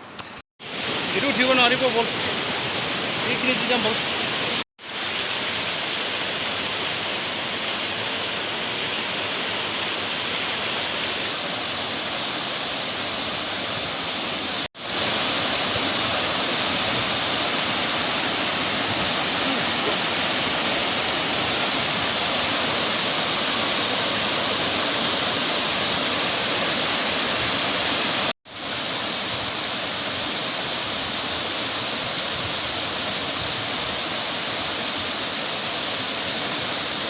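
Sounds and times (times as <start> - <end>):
waterfall rushing: 0.6 - 37.0.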